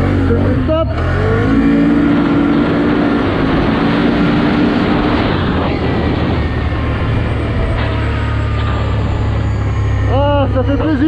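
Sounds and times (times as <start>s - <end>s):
quad engine running: 0.0s - 11.0s
rushing wind: 1.0s - 11.0s.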